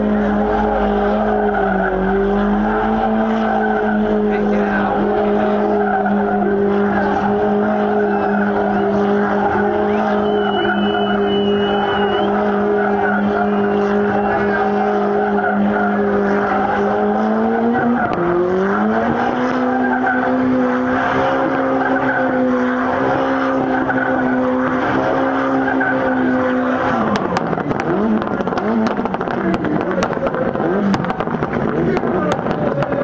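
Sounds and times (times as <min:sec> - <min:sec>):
car engine at high revs: 0:00.0 - 0:33.0
tyres skidding and squealing: 0:00.0 - 0:33.0.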